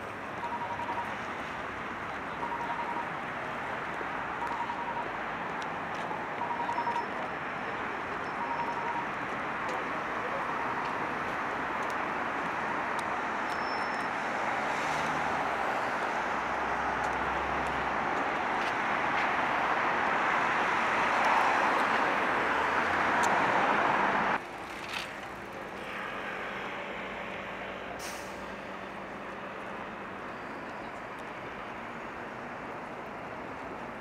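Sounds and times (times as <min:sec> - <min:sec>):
road traffic noise: 0:00.0 - 0:34.0.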